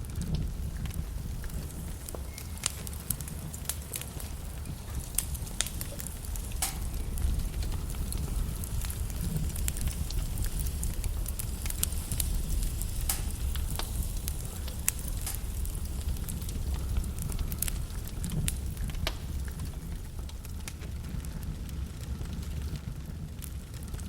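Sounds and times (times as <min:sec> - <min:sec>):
fire crackling and popping: 0:00.0 - 0:24.0
low rumble of flames: 0:00.0 - 0:24.0.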